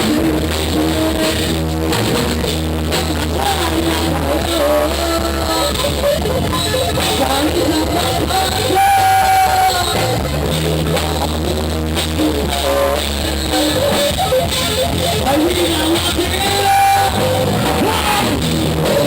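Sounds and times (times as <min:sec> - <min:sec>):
rock band music: 0:00.0 - 0:19.0.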